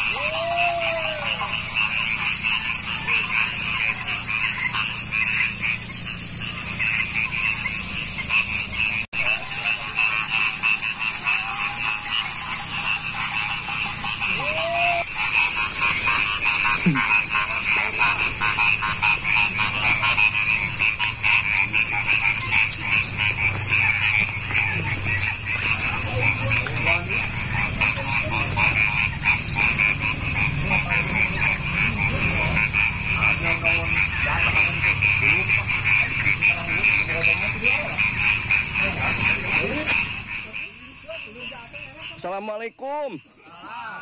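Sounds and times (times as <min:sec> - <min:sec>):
high-pitched drone: 0:00.0 - 0:42.8
frogs croaking: 0:00.0 - 0:44.0
lower arching frog calls: 0:00.0 - 0:44.0.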